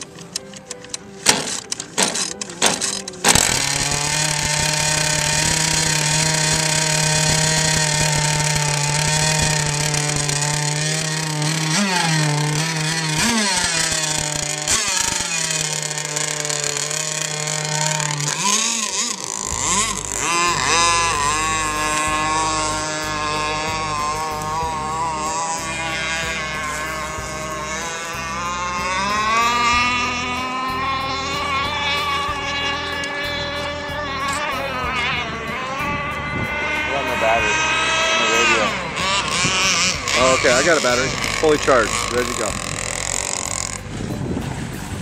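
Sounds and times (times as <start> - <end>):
engine cranking clicks: 0.0 - 35.2, 36.6 - 43.9
small two-stroke engine revving: 1.2 - 45.0.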